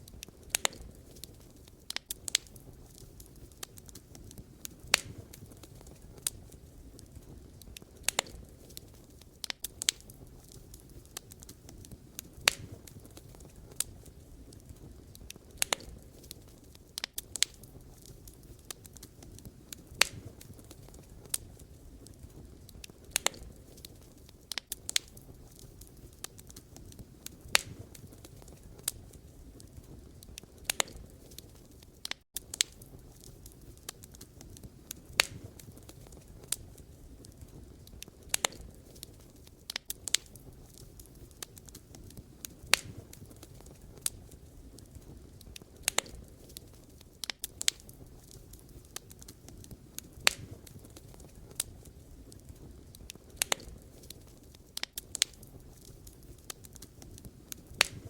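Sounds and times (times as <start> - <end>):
burning logs popping and crackling: 0.0 - 58.0
wood fire rushing: 0.0 - 58.0.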